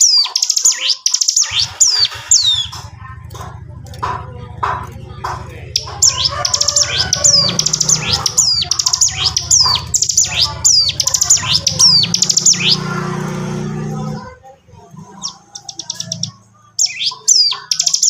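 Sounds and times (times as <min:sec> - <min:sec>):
bird singing chattering song: 0:00.0 - 0:18.0.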